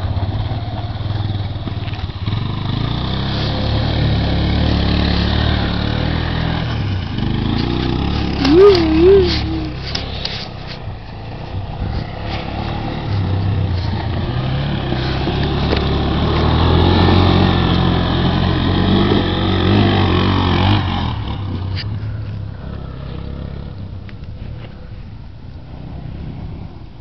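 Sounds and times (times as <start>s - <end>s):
quad bike engine running: 0.0s - 26.8s.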